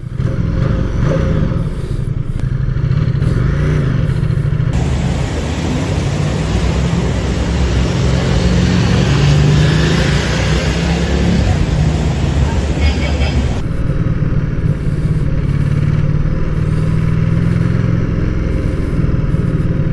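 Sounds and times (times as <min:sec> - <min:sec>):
motorcycle engine running: 0:00.0 - 0:19.9
loud rushing hiss: 0:01.6 - 0:19.9.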